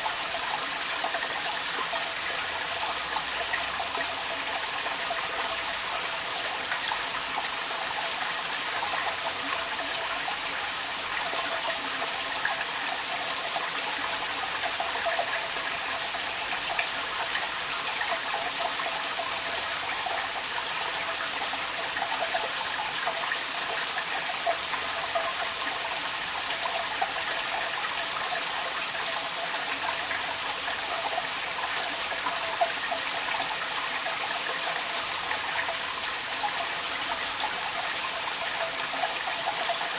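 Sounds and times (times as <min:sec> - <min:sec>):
water pouring from a downpipe: 0:00.0 - 0:39.9.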